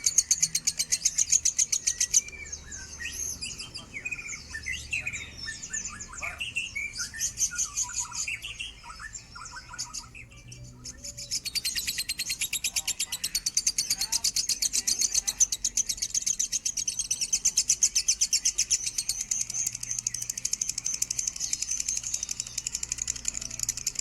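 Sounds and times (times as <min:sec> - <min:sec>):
lovebird chirping and twittering: 0:00.0 - 0:24.0.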